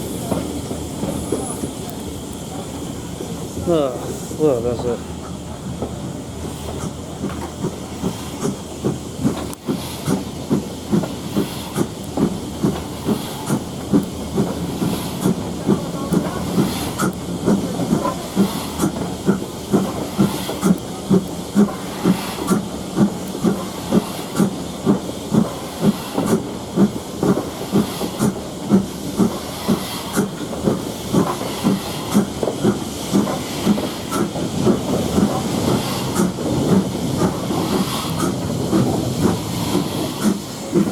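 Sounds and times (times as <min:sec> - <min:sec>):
steam hissing: 0:00.0 - 0:40.9
steam engine exhaust beats: 0:05.6 - 0:40.9.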